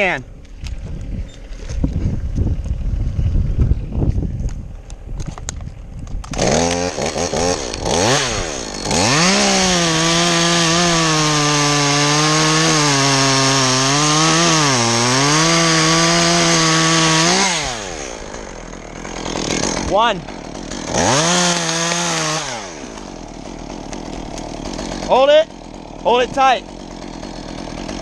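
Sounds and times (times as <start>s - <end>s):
chainsaw cutting wood: 0.0s - 3.0s, 4.8s - 28.0s.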